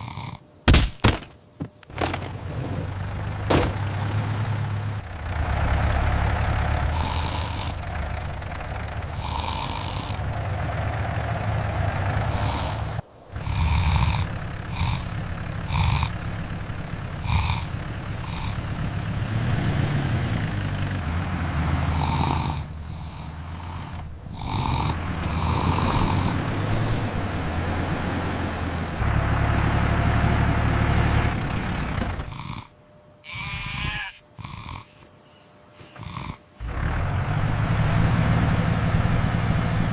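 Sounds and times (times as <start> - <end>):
tractor engine rumbling: 1.1 - 34.0, 36.6 - 39.9.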